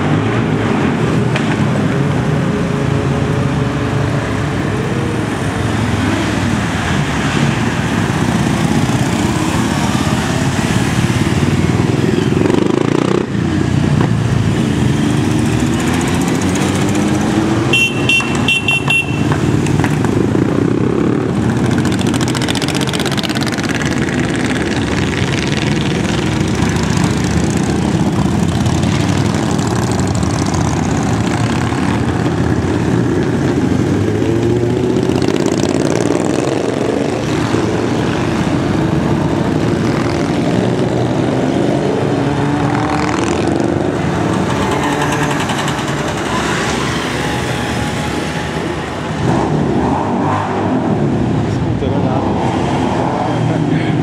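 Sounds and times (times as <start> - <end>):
motorcycles revving past: 0.0 - 54.0.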